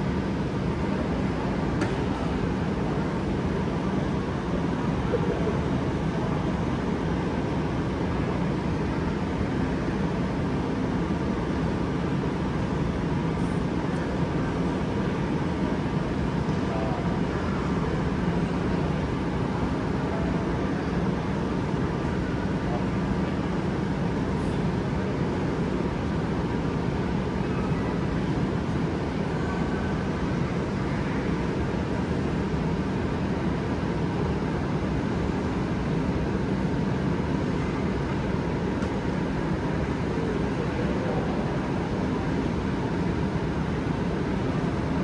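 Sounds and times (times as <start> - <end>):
shopping mall hubbub: 0.0 - 45.0.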